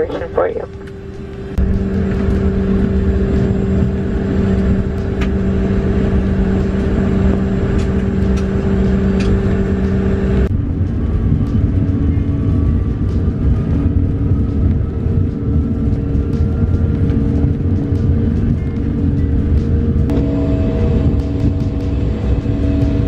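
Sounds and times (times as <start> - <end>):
jet engines rumbling at takeoff: 0.0 - 23.0
steady hum: 0.0 - 23.0.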